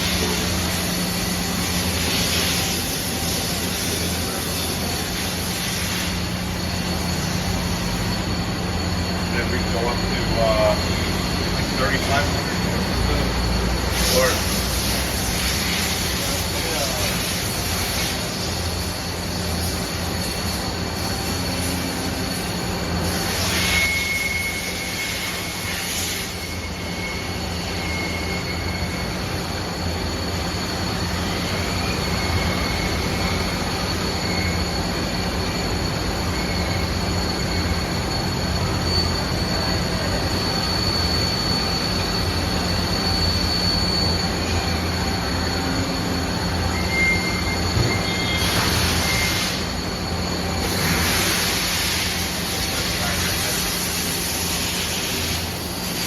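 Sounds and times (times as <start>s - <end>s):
machine humming and whining: 0.0s - 56.0s.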